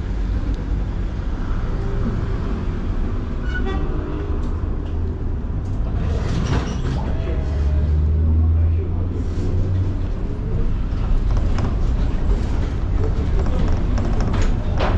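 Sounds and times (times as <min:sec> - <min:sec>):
tram rumbling: 0:00.0 - 0:14.9.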